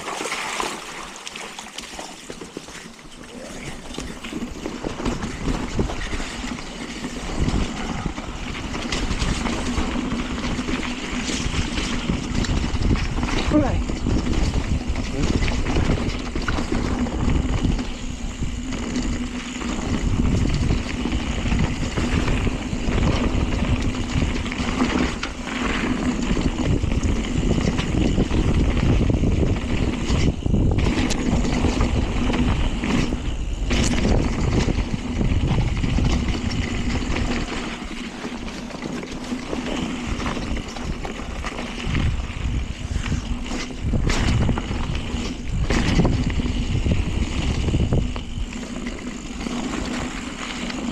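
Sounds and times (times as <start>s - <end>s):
bike knocking and rattling: 0.0s - 50.9s
wind on microphone: 3.1s - 50.9s.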